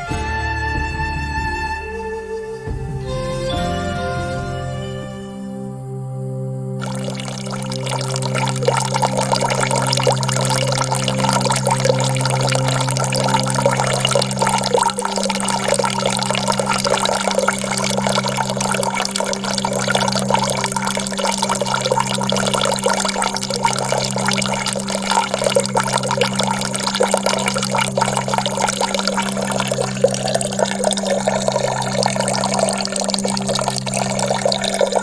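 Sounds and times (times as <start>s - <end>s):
low musical drone: 3.5s - 35.0s
water trickling and splashing: 6.8s - 35.0s.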